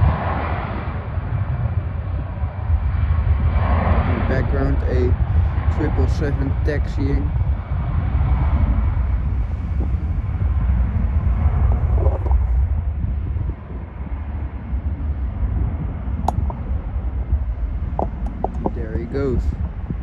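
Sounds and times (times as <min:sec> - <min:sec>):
distant jet engines rumbling: 0:00.0 - 0:20.0.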